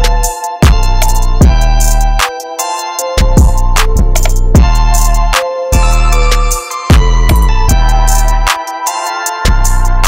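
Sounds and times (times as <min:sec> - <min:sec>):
hip hop music: 0:00.0 - 0:10.0.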